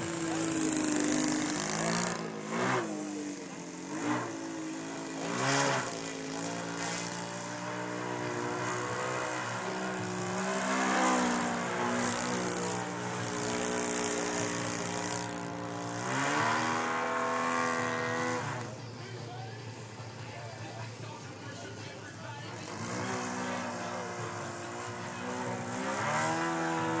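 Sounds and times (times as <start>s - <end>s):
model airplane engine and propeller: 0.0s - 27.0s.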